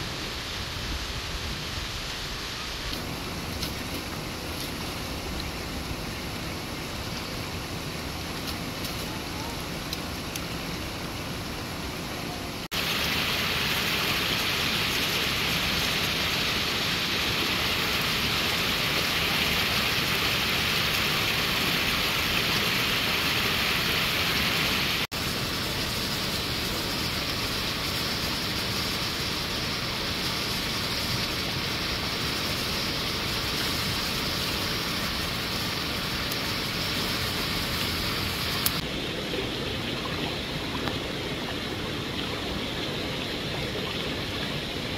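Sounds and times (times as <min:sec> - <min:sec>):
mountain stream rushing: 0:00.0 - 0:44.9.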